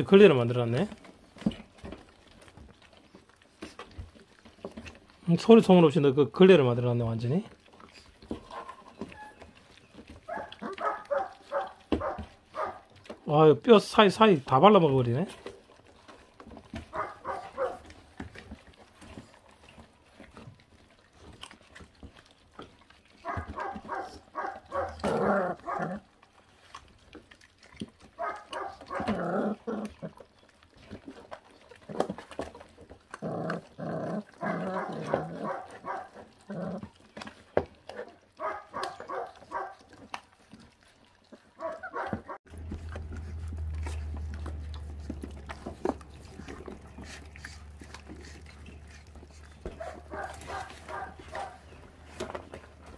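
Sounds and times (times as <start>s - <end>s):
chewing on bones: 0.0s - 52.9s
puppies growling: 0.0s - 52.9s.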